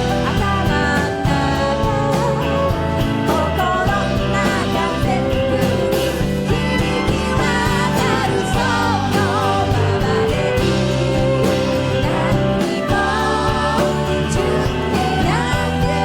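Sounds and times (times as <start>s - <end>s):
live pop band playing: 0.0s - 16.0s
wavering melody line: 0.0s - 16.0s.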